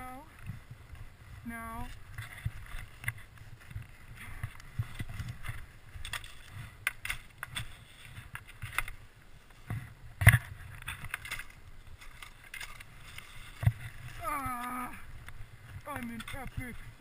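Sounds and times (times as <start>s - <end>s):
skis and poles scraping in snow: 0.0s - 17.0s.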